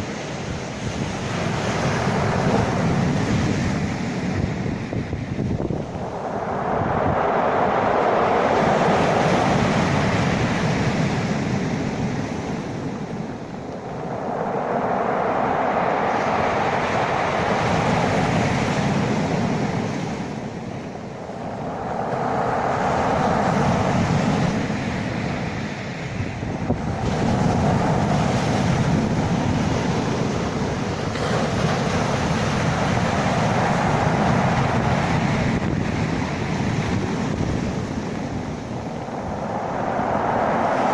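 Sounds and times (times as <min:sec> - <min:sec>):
sea waves washing in: 0:00.0 - 0:40.9.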